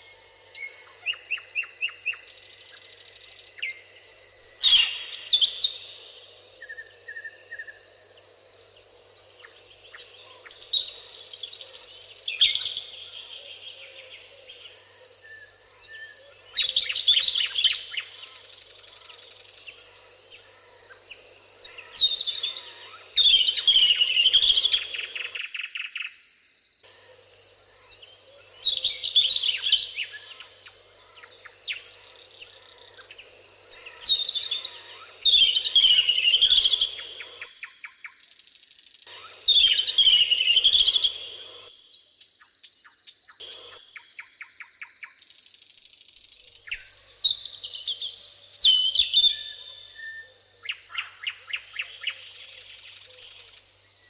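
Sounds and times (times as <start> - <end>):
songbirds warbling: 0.0 - 26.2, 26.8 - 38.4, 39.0 - 41.7, 42.9 - 54.0.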